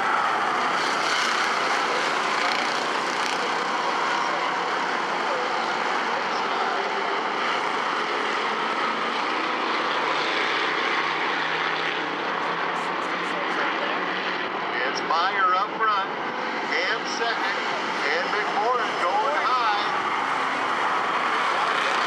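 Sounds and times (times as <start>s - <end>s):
stock car engines droning: 0.0s - 22.0s.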